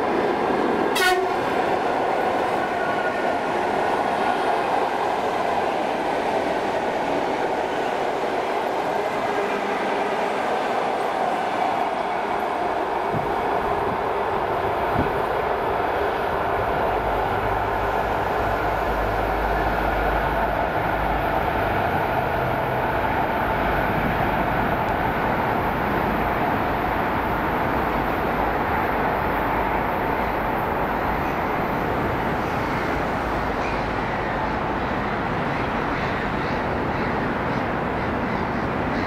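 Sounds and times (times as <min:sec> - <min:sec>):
electric train rolling on track: 0:00.0 - 0:39.0.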